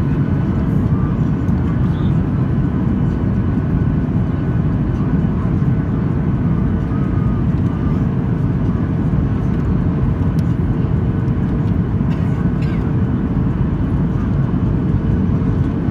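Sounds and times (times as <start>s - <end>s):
jet engine roar in cabin: 0.0s - 15.9s.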